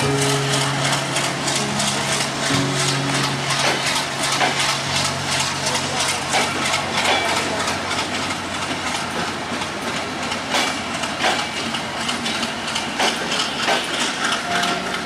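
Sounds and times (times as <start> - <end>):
train wheels rumbling on rail: 0.0 - 15.0
wheels clacking over rail joints: 0.0 - 15.0.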